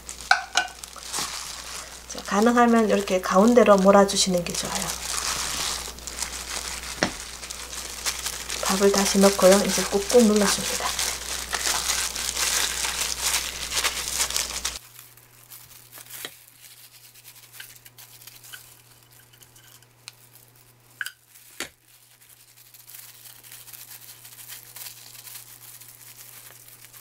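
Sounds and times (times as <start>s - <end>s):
plastic glove crinkling: 0.0s - 27.0s.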